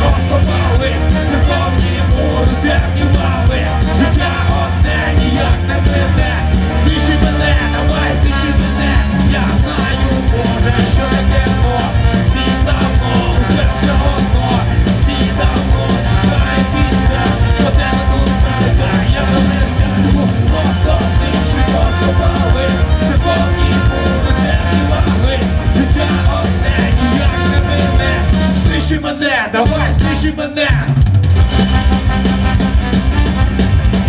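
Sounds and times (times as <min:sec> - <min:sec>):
live ska rock band playing: 0:00.0 - 0:34.0
trumpet: 0:00.0 - 0:34.0.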